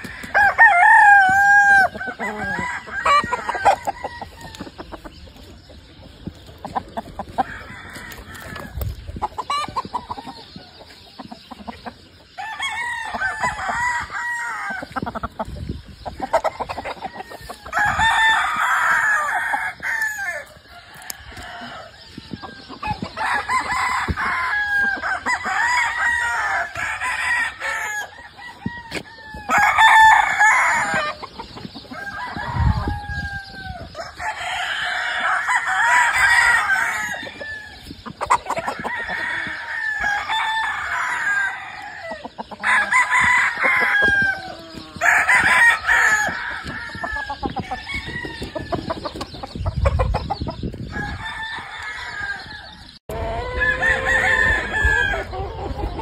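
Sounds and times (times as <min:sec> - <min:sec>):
roosters crowing: 0:00.0 - 0:56.0.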